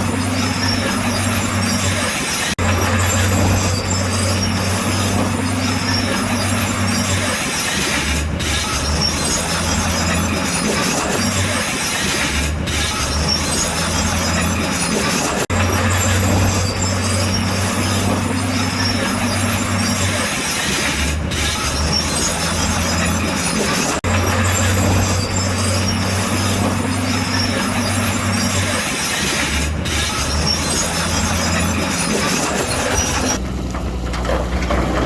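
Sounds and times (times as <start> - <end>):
diesel engine hum: 0.0 - 7.4, 12.4 - 20.2, 21.0 - 28.8, 29.5 - 35.0
harsh mechanical noise: 0.0 - 35.0.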